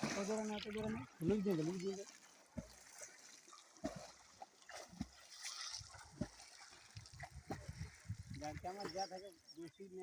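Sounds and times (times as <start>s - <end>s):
muddy water splashing and sloshing: 0.0s - 10.0s.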